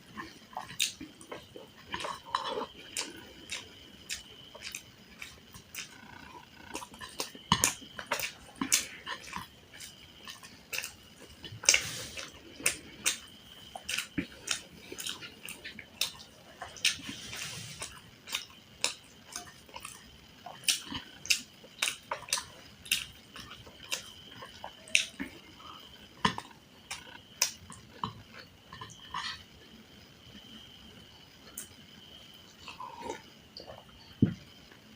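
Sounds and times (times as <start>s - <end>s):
wet chewing and mouth smacks: 0.1s - 25.5s, 26.2s - 29.4s.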